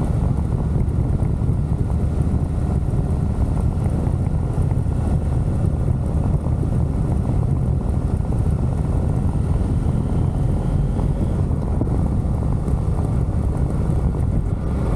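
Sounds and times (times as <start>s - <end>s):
motorcycle engine droning: 0.0s - 14.9s.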